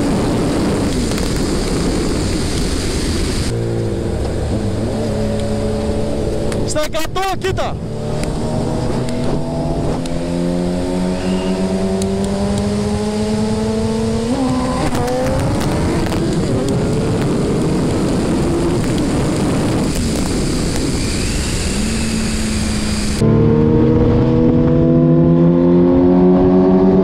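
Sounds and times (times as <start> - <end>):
motorcycle engine at speed: 0.0 - 6.7, 7.8 - 27.0
wind noise: 0.0 - 27.0.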